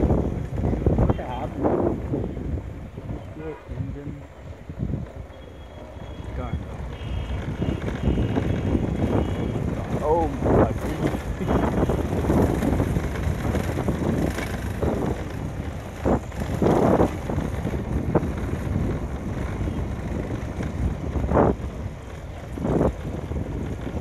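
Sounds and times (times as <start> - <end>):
motorcycle engine and road rumble: 0.0 - 24.0
wind buffeting microphone: 0.0 - 24.0.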